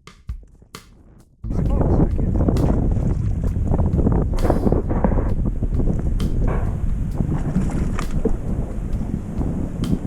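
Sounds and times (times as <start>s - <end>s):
wind buffeting microphone: 0.6s - 10.0s.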